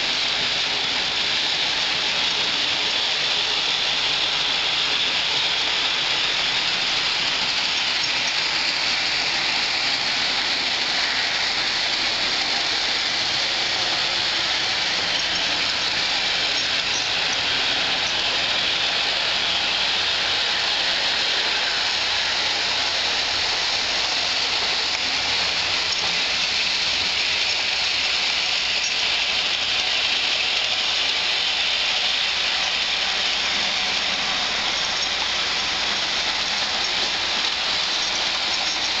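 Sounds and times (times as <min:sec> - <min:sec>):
model train whirring: 0:00.0 - 0:39.0.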